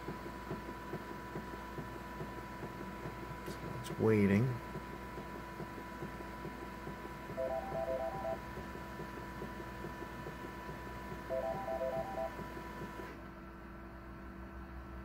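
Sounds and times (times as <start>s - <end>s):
printer hum: 0.0s - 13.3s.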